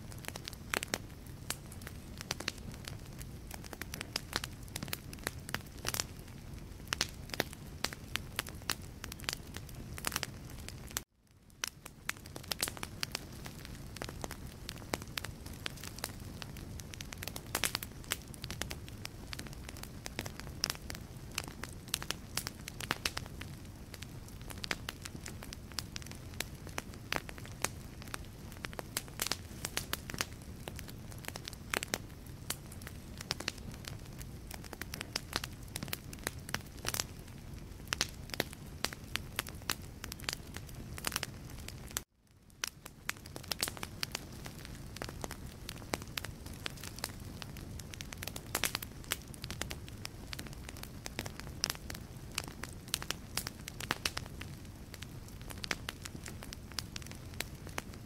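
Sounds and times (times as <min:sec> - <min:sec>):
logs crackling and popping in fireplace: 0:00.0 - 0:58.0
low rumble of flame: 0:00.0 - 0:58.0.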